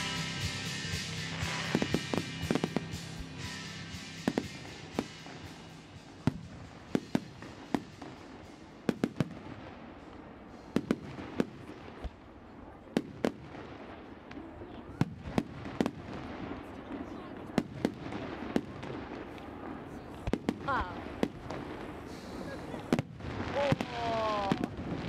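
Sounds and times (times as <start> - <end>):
fireworks bursting bangs: 0.0 - 25.0.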